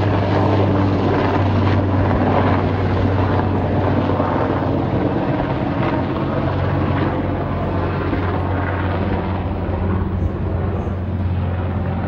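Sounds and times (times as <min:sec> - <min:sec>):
helicopter rotor and turbine drone: 0:00.0 - 0:12.0.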